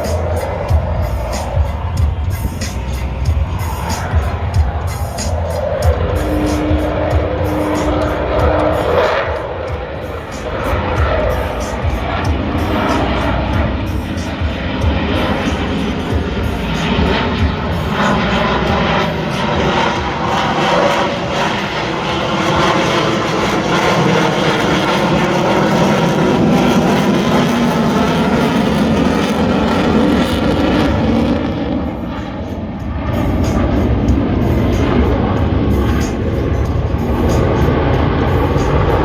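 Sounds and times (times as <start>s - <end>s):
jet flying past: 0.0s - 39.0s.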